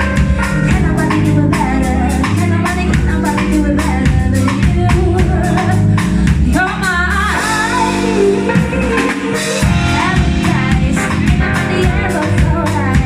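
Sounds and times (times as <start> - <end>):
live band playing: 0.0 - 13.0
woman singing: 0.4 - 13.0.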